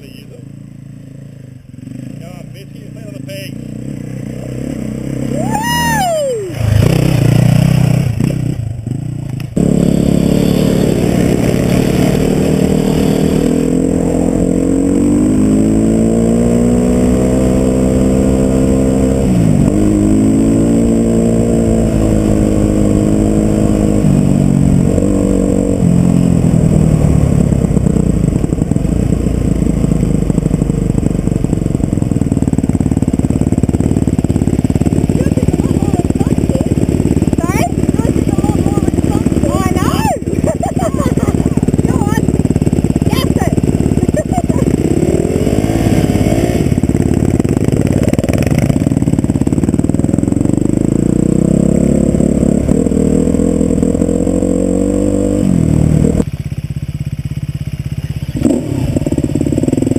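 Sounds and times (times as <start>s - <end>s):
dirt bike engine revving: 0.0s - 59.9s
wind and road rush: 3.0s - 59.9s.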